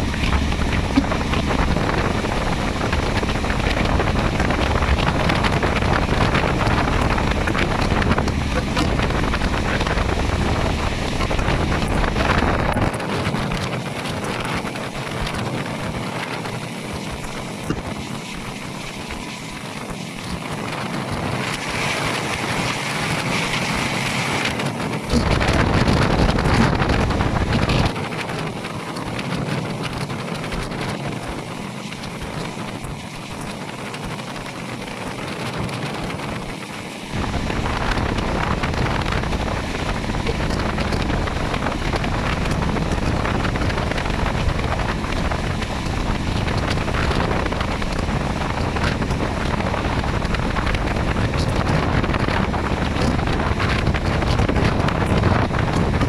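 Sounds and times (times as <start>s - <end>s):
passenger train running: 0.0s - 56.0s
wind buffeting microphone: 0.0s - 56.0s.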